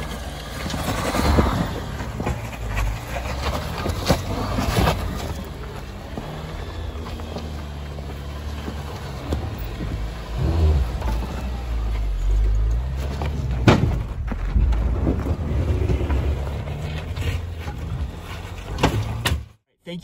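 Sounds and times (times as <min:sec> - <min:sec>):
car engine pulling at low speed: 0:00.0 - 0:19.6.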